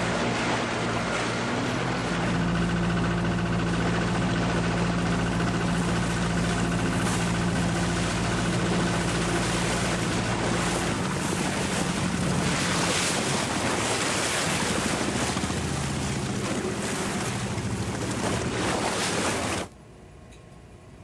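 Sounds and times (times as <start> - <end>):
rushing water: 0.0 - 19.7
boat engine drone: 0.0 - 21.0.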